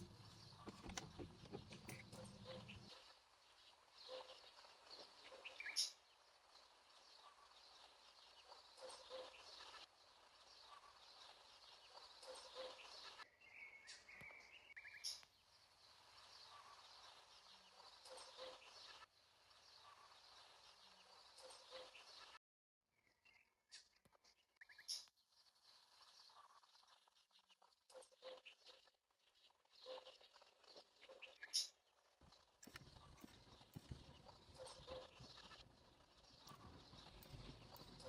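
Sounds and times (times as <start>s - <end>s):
bird chirps: 0.0s - 22.4s, 24.6s - 25.1s, 29.7s - 38.0s.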